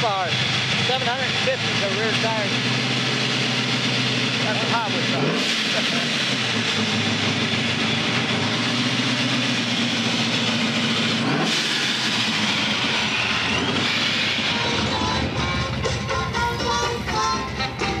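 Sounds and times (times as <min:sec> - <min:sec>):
supercharged engine idling: 0:00.0 - 0:18.0.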